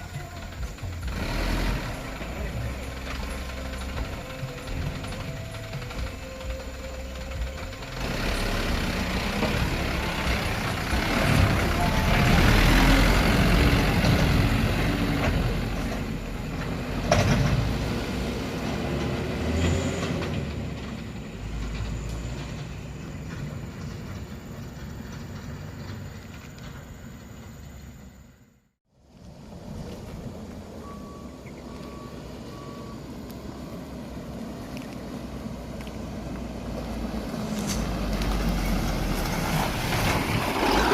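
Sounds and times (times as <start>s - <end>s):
dump truck engine running: 0.0s - 40.9s.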